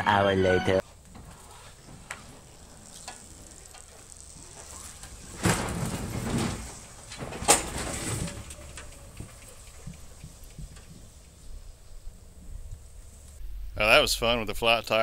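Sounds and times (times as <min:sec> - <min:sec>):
car clunking off ramps: 0:00.8 - 0:12.9
tyres scraping on ramps: 0:00.8 - 0:13.4.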